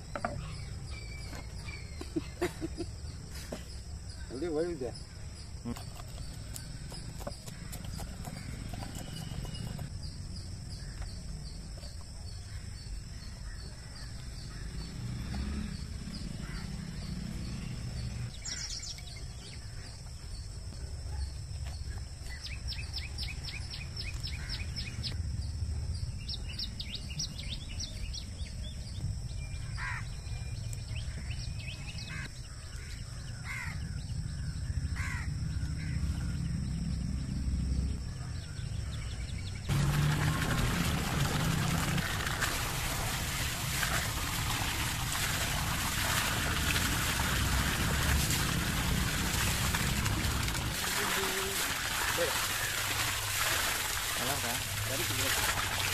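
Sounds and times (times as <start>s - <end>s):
insect drone: 0.0s - 55.3s
birds chirping: 0.0s - 55.9s.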